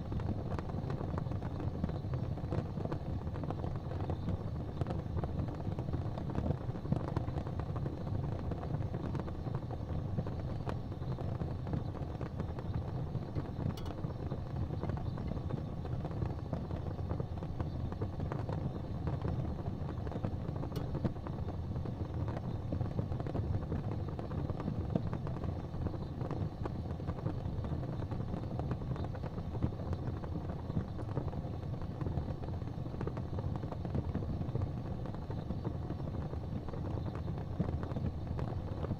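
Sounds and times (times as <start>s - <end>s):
fire crackling in a fireplace: 0.0s - 38.9s
sharp fire pops: 0.0s - 38.9s.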